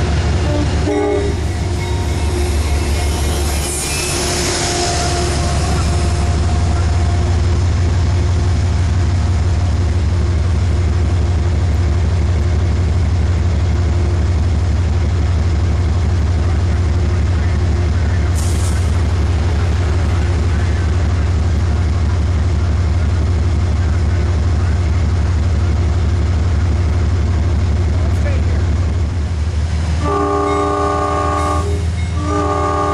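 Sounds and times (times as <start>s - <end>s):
diesel locomotive idling: 0.0s - 32.9s.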